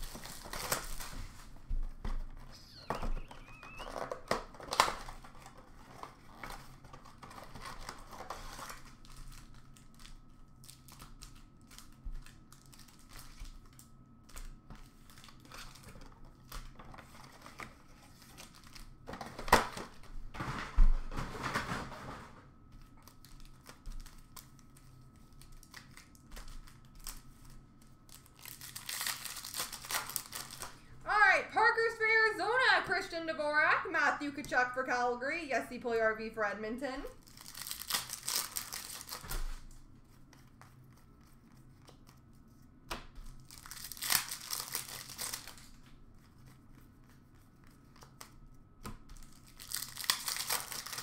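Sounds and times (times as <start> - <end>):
foil wrappers crinkling: 0.0 - 31.3, 36.9 - 42.5, 43.2 - 51.0.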